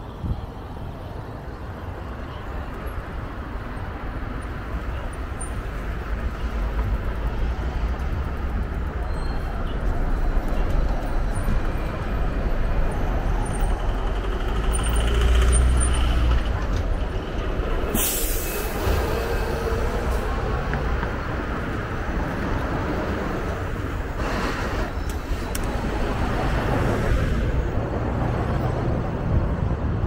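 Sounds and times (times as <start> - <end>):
passing vehicles rumbling: 0.0 - 30.0.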